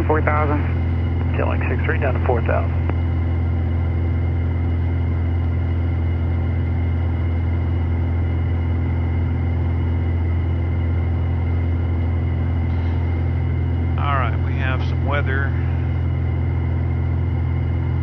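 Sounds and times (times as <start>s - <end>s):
airplane engine and propeller drone: 0.0s - 18.0s.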